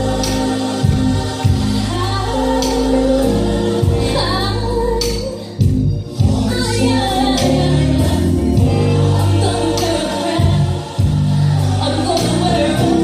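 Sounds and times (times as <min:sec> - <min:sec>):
bass and beat: 0:00.0 - 0:13.0
choir singing gospel music: 0:00.0 - 0:13.0.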